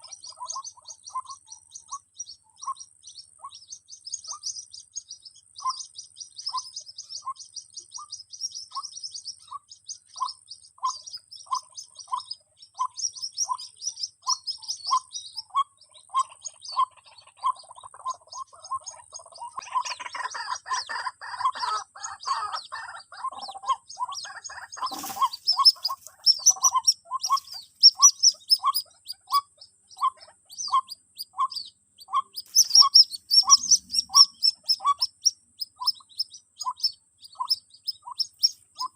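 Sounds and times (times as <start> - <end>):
bird chick peeps: 0.0 - 38.9
high bird twittering: 0.0 - 38.9.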